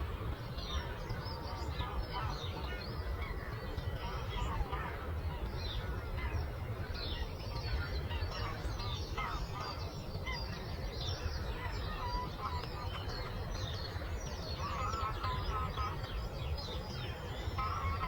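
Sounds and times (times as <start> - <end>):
many birds chirping and singing: 0.0 - 18.0.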